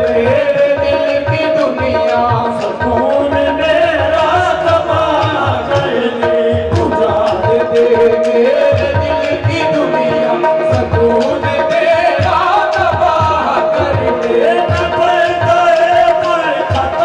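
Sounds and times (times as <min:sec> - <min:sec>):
harmonium chords: 0:00.0 - 0:17.0
tabla beating rhythm: 0:00.0 - 0:17.0.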